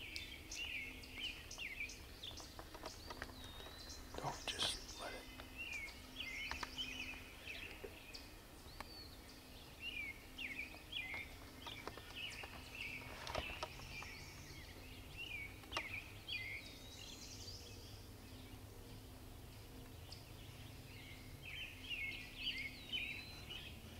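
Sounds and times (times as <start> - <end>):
songbirds chirping and singing: 0.0 - 23.9.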